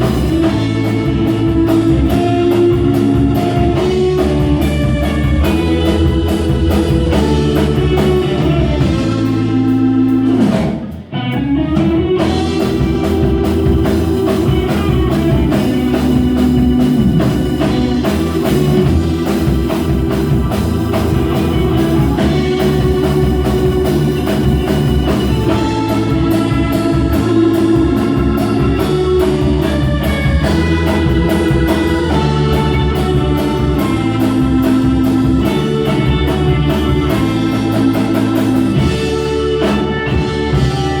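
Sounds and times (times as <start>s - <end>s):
rock music with electric guitar: 0.0s - 41.0s.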